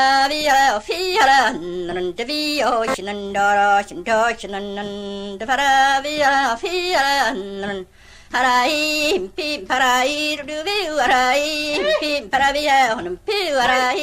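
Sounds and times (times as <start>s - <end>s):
woman singing unaccompanied: 0.0s - 14.0s.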